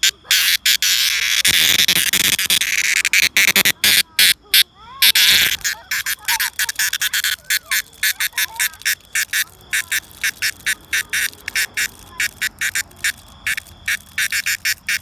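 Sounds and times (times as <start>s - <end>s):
cicada calling: 0.0s - 15.0s.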